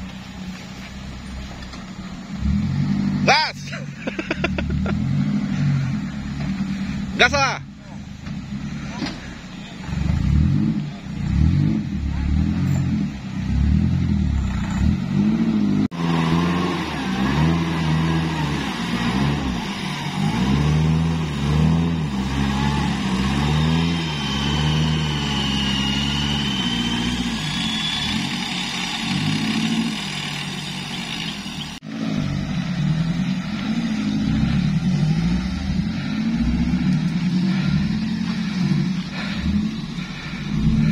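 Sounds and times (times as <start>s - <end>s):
off-road engines revving: 0.0s - 40.9s.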